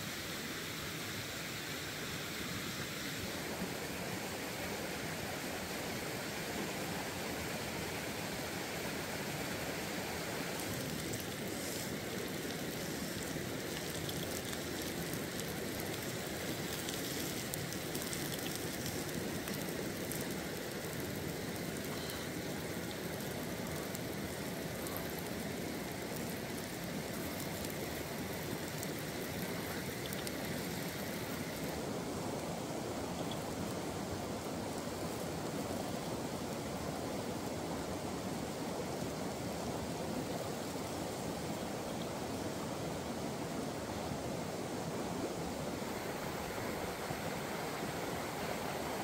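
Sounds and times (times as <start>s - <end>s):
water rushing: 0.0s - 49.0s.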